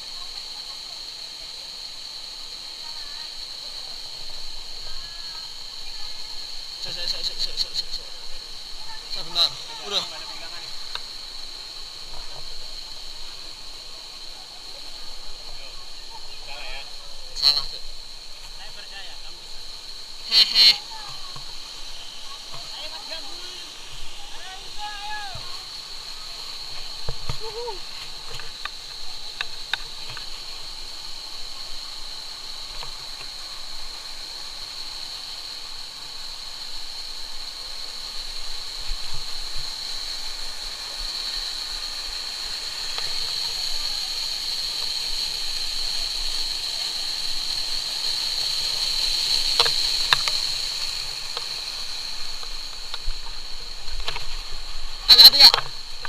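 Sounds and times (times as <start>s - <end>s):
high-pitched hiss: 0.0s - 56.0s
stream water rushing: 0.0s - 56.0s.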